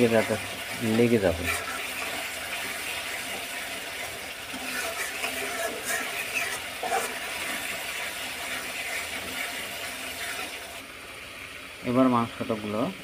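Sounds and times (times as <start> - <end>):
metal spatula scraping pan: 0.0 - 10.8
steady sizzle: 0.0 - 13.0.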